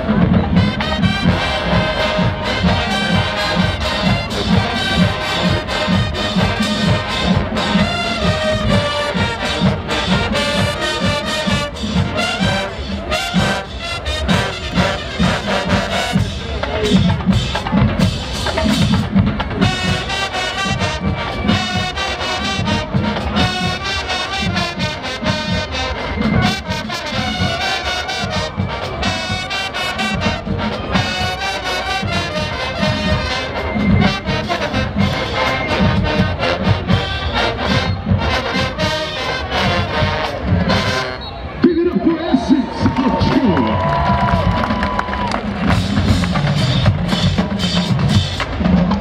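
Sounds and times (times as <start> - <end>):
brass section playing: 0.0 - 49.0
drumline pounding: 0.0 - 49.0.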